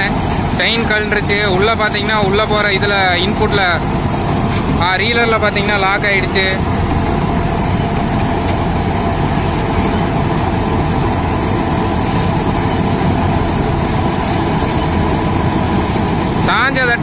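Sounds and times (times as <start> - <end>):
harvester cutting corn stalks: 0.0 - 17.0
tractor diesel engine droning: 0.0 - 17.0.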